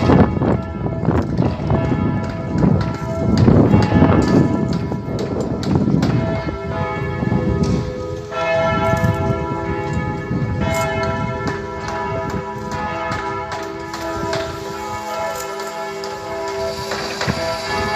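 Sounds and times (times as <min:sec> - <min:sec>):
church bells ringing: 0:00.0 - 0:17.9.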